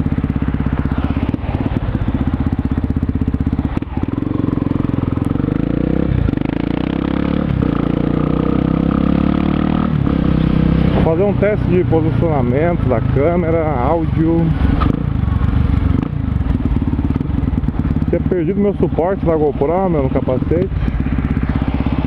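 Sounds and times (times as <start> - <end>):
motorcycle engine running loud: 0.0 - 22.0.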